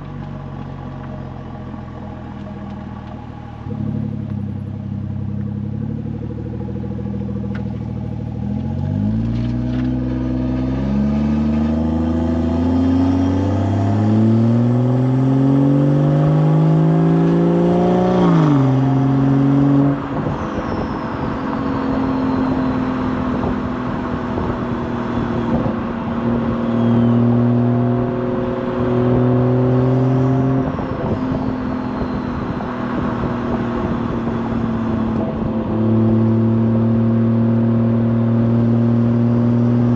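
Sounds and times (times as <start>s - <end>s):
crackly exhaust burble: 0.0s - 12.4s, 18.2s - 39.9s
car exhaust accelerating: 0.0s - 39.9s.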